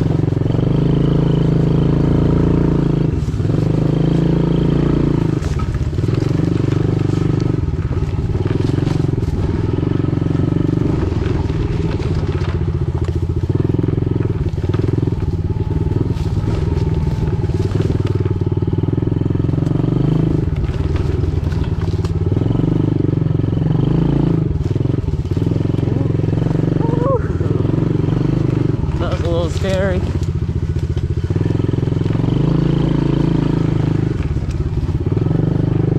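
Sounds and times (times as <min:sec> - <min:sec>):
pit bike engine running: 0:00.0 - 0:35.9.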